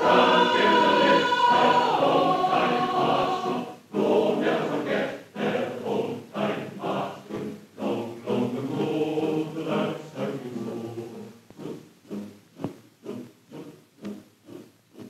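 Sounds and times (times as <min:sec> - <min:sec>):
choir singing: 0:00.0 - 0:13.8.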